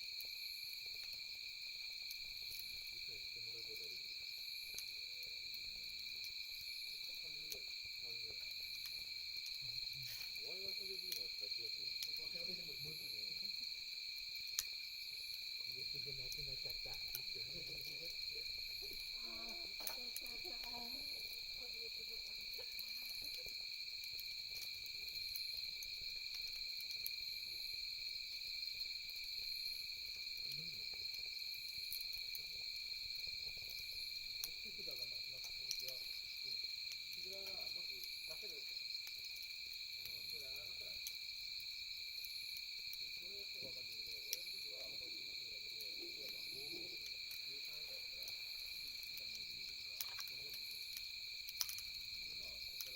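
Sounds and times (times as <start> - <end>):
campfire crackling: 0.0 - 52.9
insects chirring: 0.0 - 52.9.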